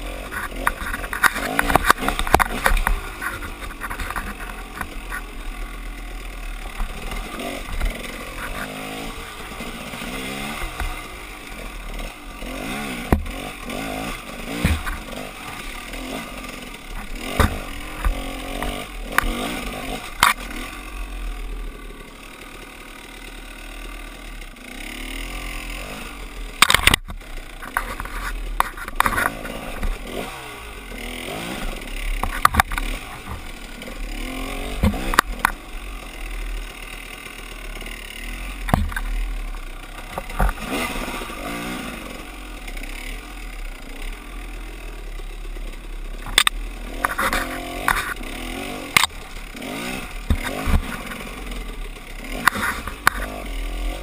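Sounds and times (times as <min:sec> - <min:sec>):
dirt bike engine revving: 0:00.0 - 0:54.0
bike knocking and clattering: 0:00.2 - 0:20.7, 0:26.3 - 0:30.4, 0:31.0 - 0:41.8, 0:45.2 - 0:54.0.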